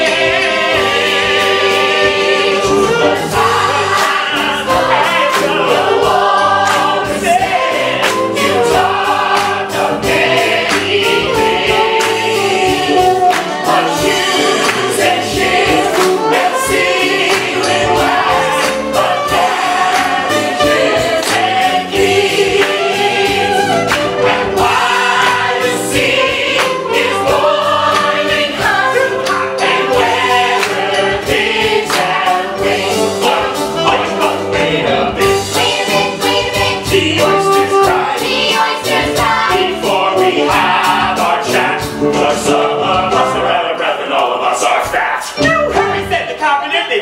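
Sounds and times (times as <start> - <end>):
live band playing: 0.0 - 43.4, 45.3 - 47.0
steady drum beat: 0.0 - 43.5.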